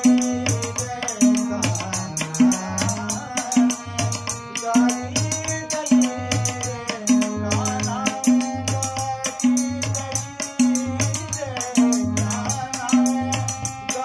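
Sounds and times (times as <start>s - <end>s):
harmonium: 0.0s - 14.0s
man singing: 0.0s - 14.0s.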